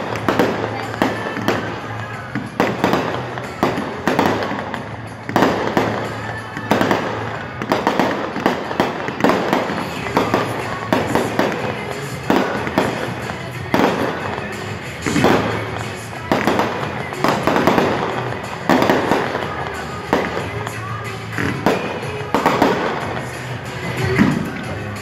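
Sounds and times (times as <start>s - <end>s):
fireworks bursting: 0.0s - 25.0s
music playing: 0.0s - 25.0s.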